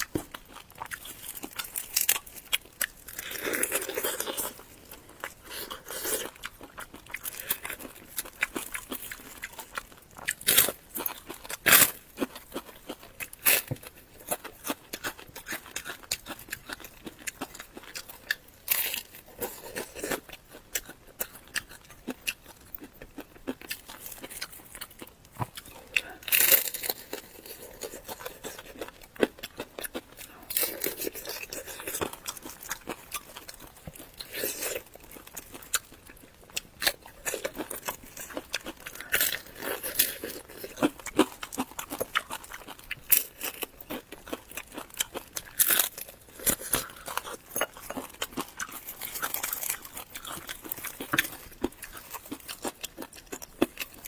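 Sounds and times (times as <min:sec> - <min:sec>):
crunchy bites and chewing: 0:00.0 - 0:54.0.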